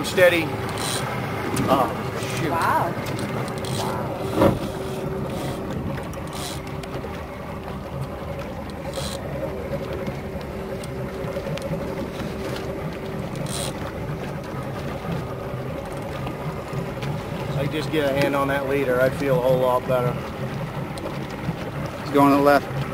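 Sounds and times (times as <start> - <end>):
boat motor humming: 0.0 - 22.9.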